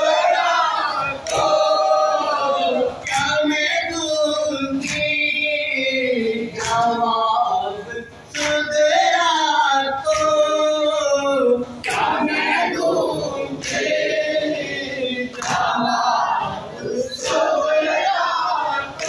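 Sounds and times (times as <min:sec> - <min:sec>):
group chanting: 0:00.0 - 0:19.0
reciter at a microphone: 0:00.0 - 0:19.0.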